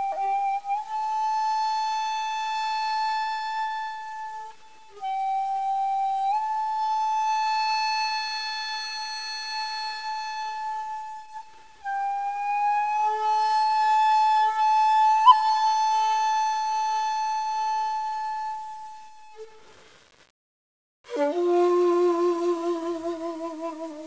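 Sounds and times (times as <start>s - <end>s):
flute holding long notes: 0.0s - 19.7s, 21.1s - 24.0s.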